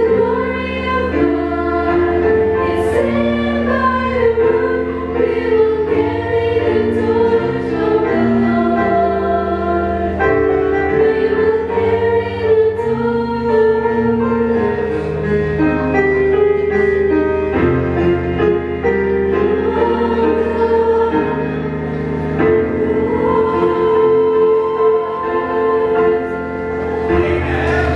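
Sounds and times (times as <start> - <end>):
female vocal group singing gospel: 0.0 - 15.1, 19.3 - 21.7, 22.4 - 27.9.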